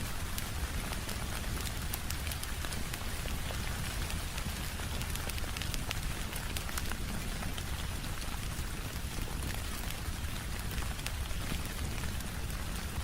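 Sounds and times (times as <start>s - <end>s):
steady rain patter: 0.0s - 13.0s
wood fire crackling: 0.1s - 12.8s.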